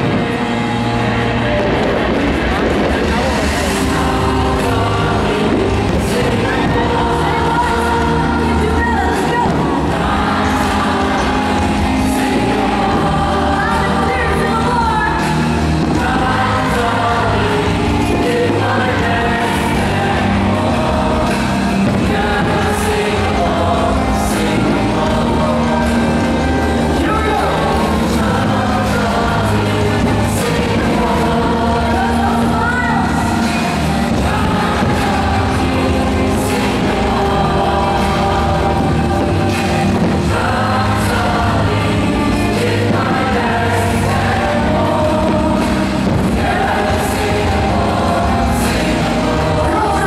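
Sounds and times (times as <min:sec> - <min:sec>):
choir singing held notes: 0:00.0 - 0:50.0
steady bass line: 0:00.0 - 0:50.0.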